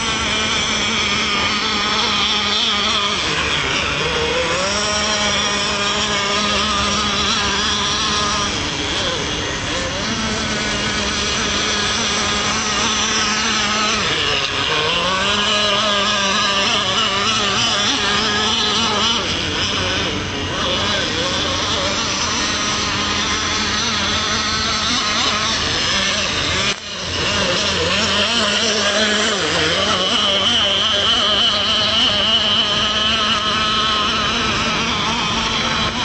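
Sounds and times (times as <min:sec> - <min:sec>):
small model boat engine buzzing: 0:00.0 - 0:36.0.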